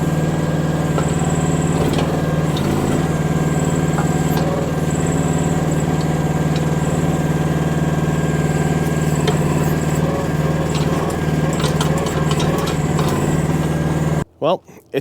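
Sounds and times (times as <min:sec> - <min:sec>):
faint clicks and knocks: 0:00.0 - 0:14.2
excavator engine under load: 0:00.0 - 0:14.3.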